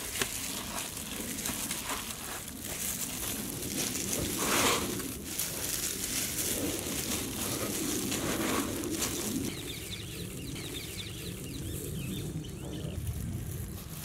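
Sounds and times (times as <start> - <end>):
small birds chirping rapidly: 0.0 - 13.7
crunching rustle of crumb coating: 0.0 - 14.0.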